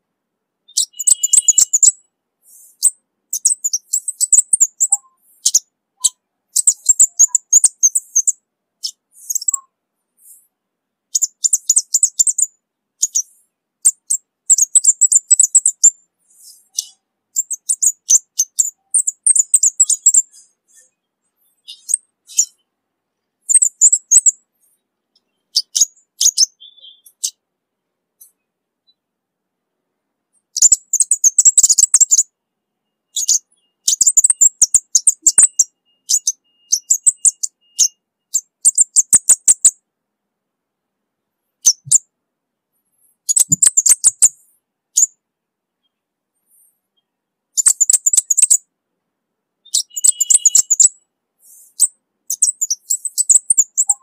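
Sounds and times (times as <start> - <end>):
bird high-pitched ticking song: 0.6 - 27.4, 28.2 - 29.0, 30.3 - 39.8, 41.5 - 42.1, 42.9 - 45.2, 45.8 - 48.7, 49.6 - 54.0.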